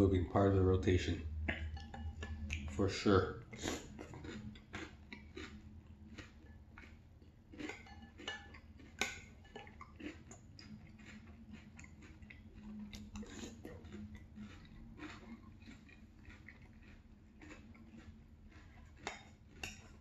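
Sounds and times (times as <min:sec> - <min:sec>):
chewing crunchy cereal: 0:00.2 - 0:20.0.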